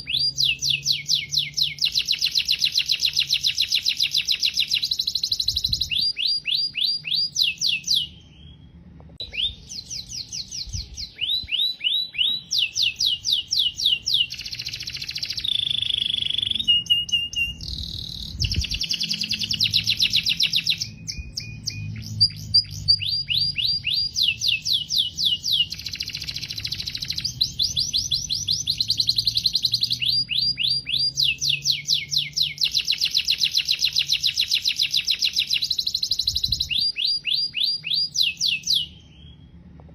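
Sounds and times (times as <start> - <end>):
canary singing trilled song: 0.0 - 39.8.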